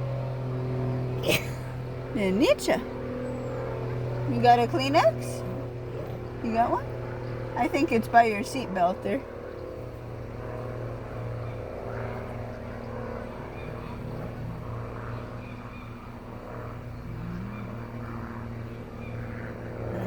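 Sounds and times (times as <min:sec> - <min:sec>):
car engine hum: 0:00.0 - 0:18.3.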